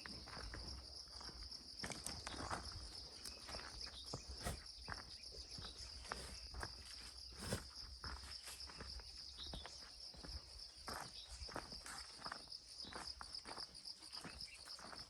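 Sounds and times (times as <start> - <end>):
footsteps on a path: 0.0 - 15.0
high-pitched insect chorus: 0.0 - 15.0.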